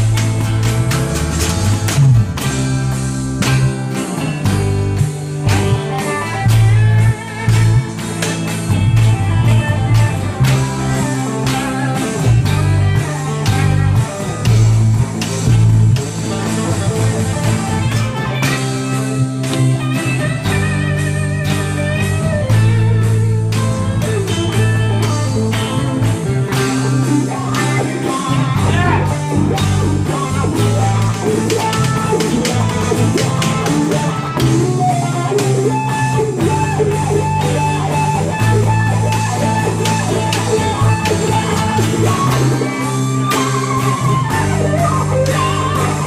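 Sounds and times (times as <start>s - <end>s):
acoustic and electric guitars jamming: 0.0s - 46.0s.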